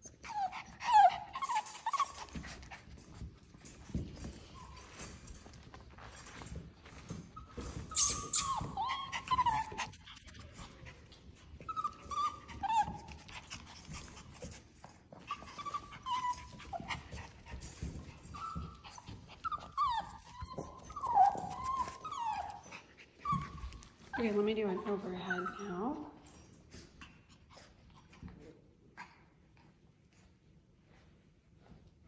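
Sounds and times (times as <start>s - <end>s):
puppies whining and yipping: 0.0s - 26.4s.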